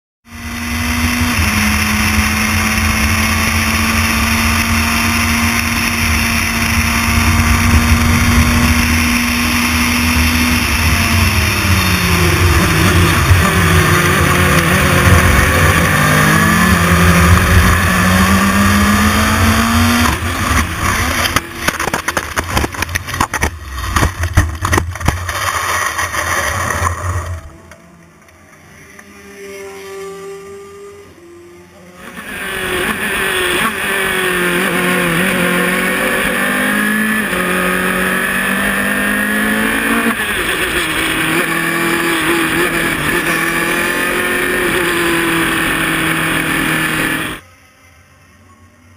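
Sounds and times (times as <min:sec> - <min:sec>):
race car engine revving: 0:00.3 - 0:27.8, 0:28.6 - 0:47.4.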